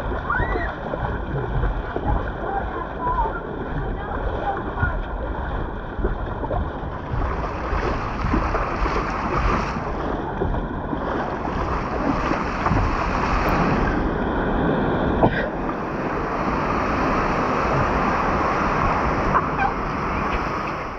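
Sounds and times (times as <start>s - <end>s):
running water rushing: 0.0s - 20.9s.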